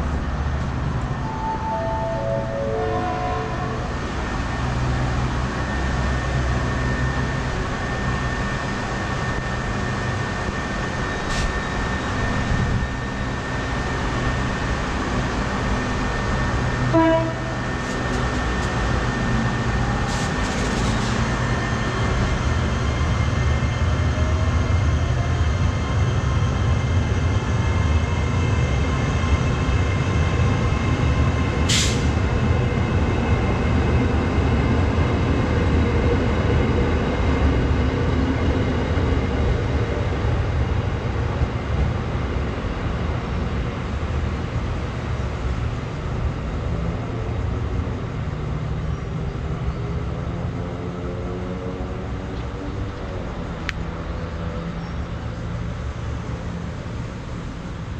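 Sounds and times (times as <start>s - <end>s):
train low rumble: 0.0s - 57.9s.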